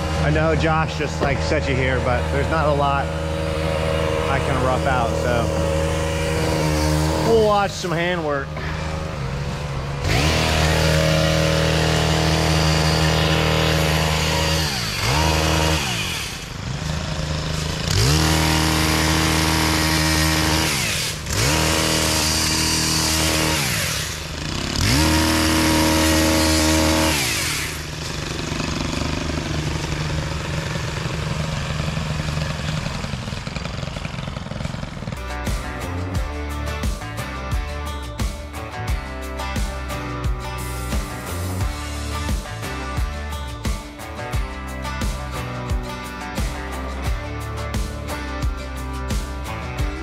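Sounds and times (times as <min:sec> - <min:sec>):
two-stroke pole saw running: 0:00.0 - 0:50.0.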